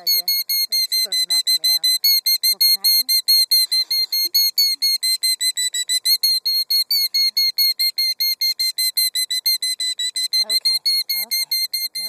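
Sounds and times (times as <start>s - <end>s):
shrill bird alarm notes: 0.0s - 12.0s.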